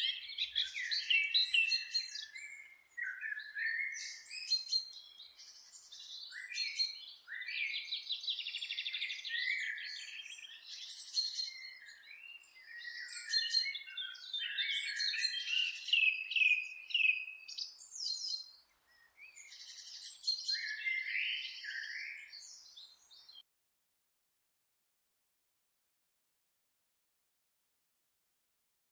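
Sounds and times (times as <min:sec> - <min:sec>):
songbirds singing and chirping: 0:00.0 - 0:23.4.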